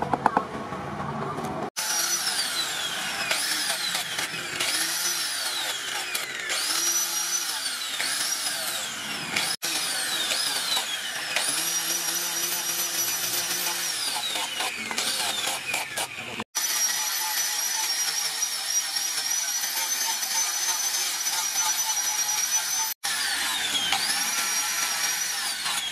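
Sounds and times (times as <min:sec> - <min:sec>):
angle grinder sanding wood: 0:01.8 - 0:25.9.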